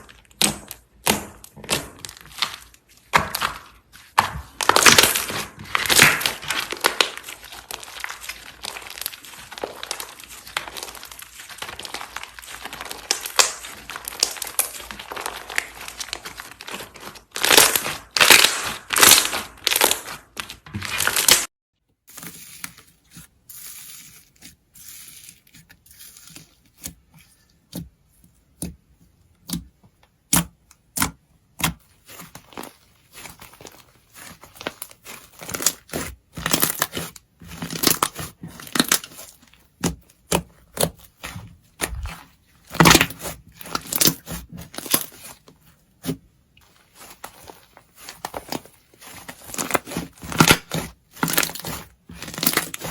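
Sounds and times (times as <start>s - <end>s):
slime crackling and popping: 0.0s - 21.5s, 29.4s - 52.9s.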